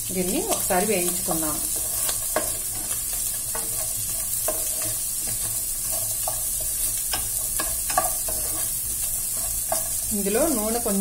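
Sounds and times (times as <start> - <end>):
vegetables sizzling in oil: 0.0 - 11.0
wooden spatula scraping a pan: 0.5 - 10.9.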